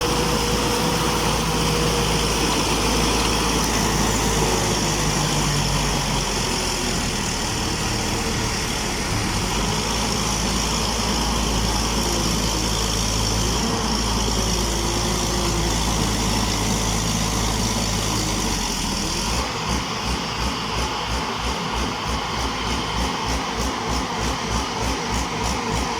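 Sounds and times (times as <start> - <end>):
combine harvester engine running: 0.0 - 25.9.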